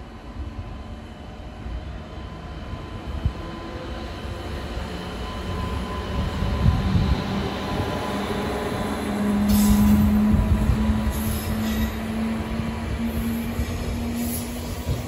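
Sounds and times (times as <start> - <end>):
electric locomotive rumble and hum: 0.0 - 15.0.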